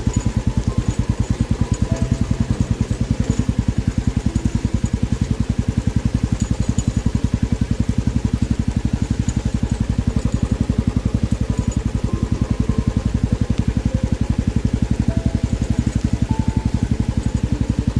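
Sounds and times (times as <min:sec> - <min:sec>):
motorcycle engine running steadily: 0:00.0 - 0:17.9.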